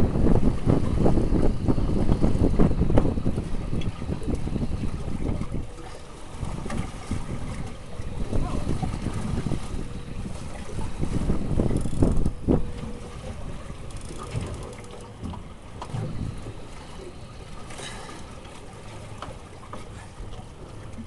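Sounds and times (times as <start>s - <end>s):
wind buffeting microphone: 0.0s - 17.7s
sea noise: 0.0s - 21.0s.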